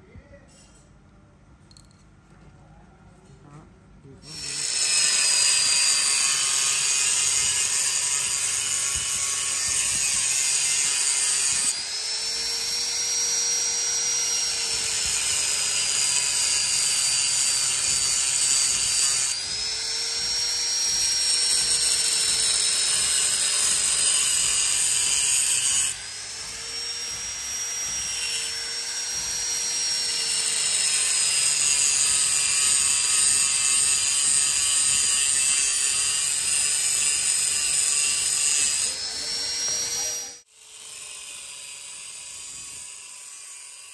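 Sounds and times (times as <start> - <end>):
electric power tool whining: 4.2 - 43.5.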